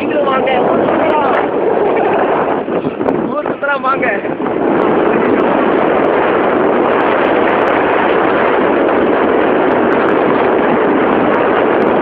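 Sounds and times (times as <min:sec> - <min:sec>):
road noise: 0:00.0 - 0:12.0
wind noise on microphone: 0:00.0 - 0:12.0.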